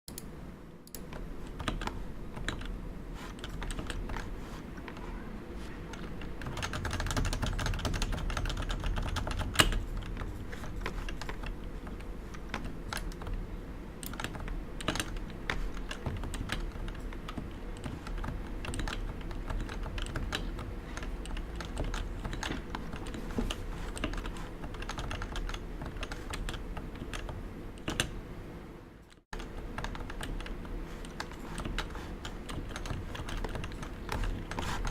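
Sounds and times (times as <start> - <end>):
keyboard typing: 0.9 - 13.4, 14.0 - 28.2, 29.1 - 34.9.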